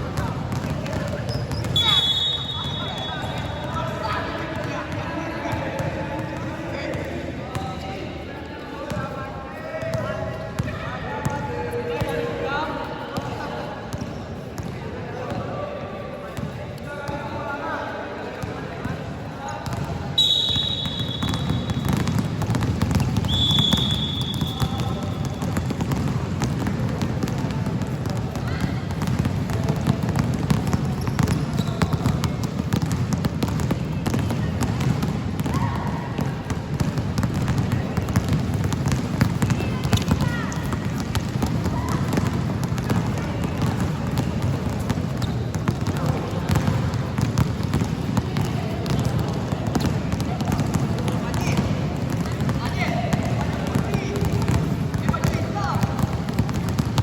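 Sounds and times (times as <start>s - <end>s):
basketballs bouncing on a court: 0.0s - 12.5s, 13.1s - 15.5s, 16.2s - 57.0s.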